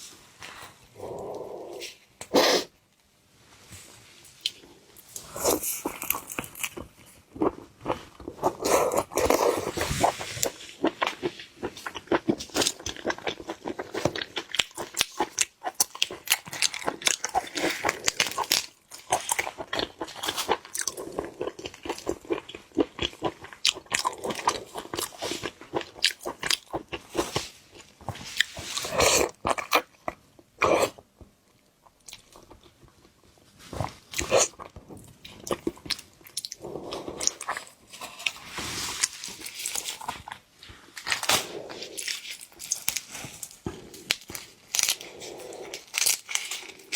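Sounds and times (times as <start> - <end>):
crunching and chewing seafood: 4.4 - 46.9.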